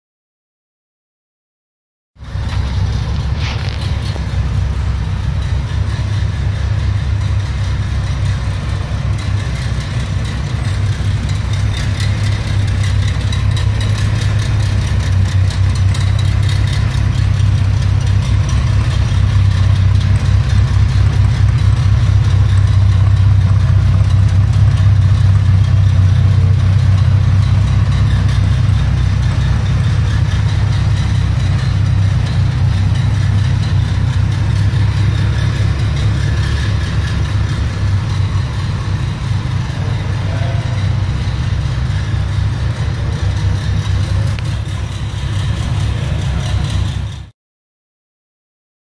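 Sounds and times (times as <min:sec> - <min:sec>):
car engine idling: 0:02.2 - 0:47.3.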